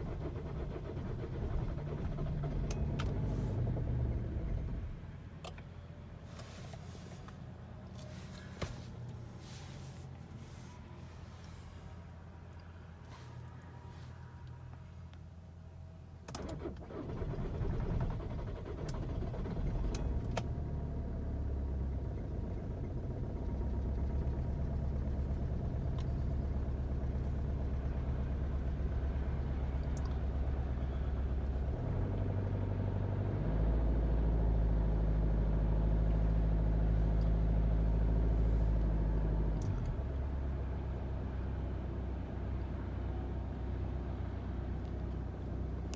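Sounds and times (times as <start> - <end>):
diesel car engine starting and running: 0.0 - 45.9.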